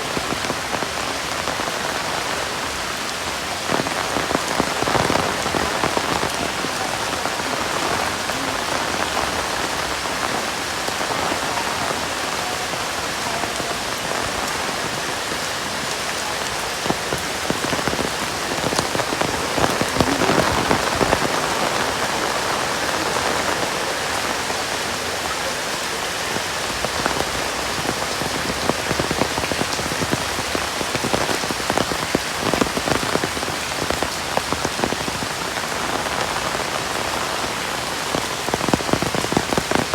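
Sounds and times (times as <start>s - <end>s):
heavy rain falling: 0.0s - 39.9s
raindrops ticking on surfaces: 0.0s - 39.9s.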